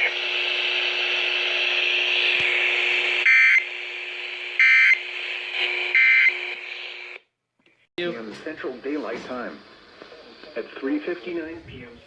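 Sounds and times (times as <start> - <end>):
radio static: 0.0 - 7.2, 8.0 - 12.0.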